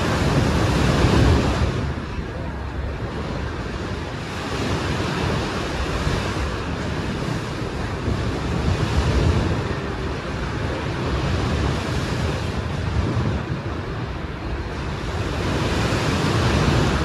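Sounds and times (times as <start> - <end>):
sea waves washing in: 0.0 - 17.0
wind buffeting microphone: 0.0 - 17.0.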